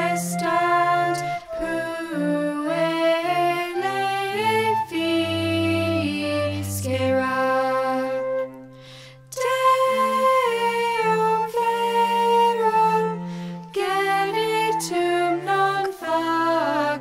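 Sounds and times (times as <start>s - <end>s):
girls singing in harmony: 0.0s - 8.6s, 9.3s - 17.0s
bowed cello: 0.0s - 17.0s.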